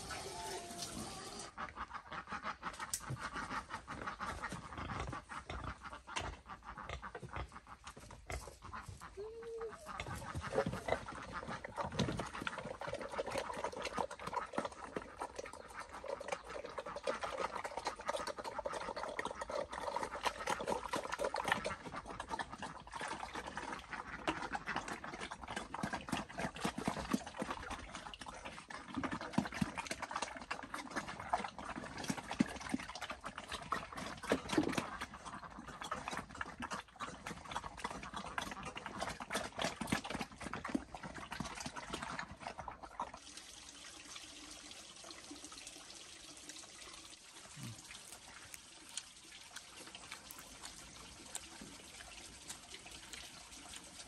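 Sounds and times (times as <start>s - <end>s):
pigs slurping and chomping: 0.0s - 54.0s.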